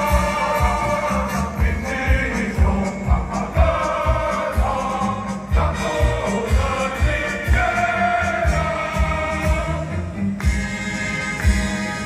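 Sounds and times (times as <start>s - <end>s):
choir singing held notes: 0.0s - 10.2s
instrumental accompaniment with beat: 0.0s - 12.0s.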